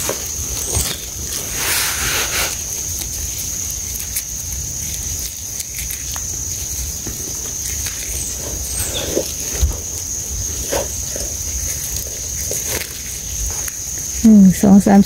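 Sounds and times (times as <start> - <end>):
digging in dry soil: 0.0 - 14.2
high-pitched insect buzz: 0.0 - 15.0.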